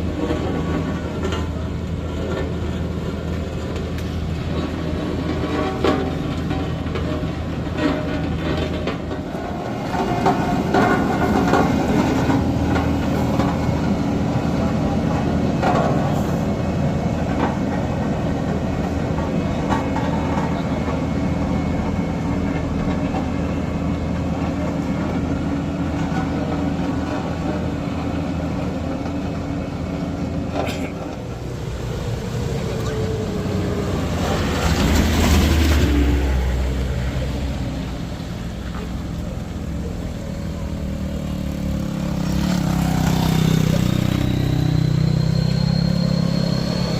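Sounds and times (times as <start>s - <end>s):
diesel engine clattering: 0.0s - 46.9s.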